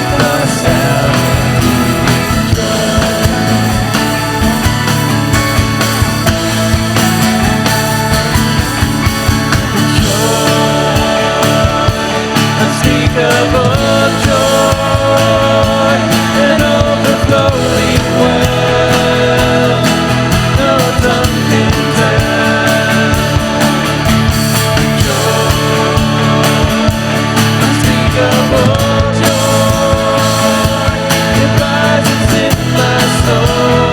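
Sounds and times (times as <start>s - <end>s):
rock worship music from a band: 0.0s - 33.9s
steady drum beat: 0.0s - 33.9s.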